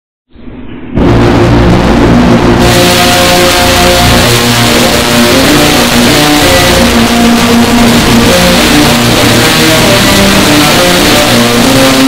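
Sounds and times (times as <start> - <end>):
distorted bagpipes playing: 1.0 - 12.0.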